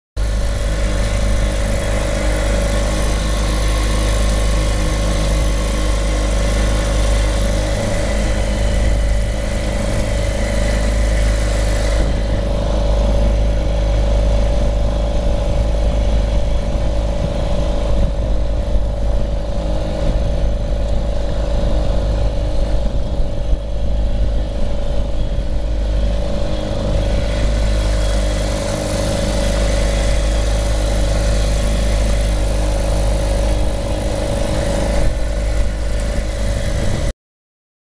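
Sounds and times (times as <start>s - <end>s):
outboard motor running: 0.2s - 37.1s.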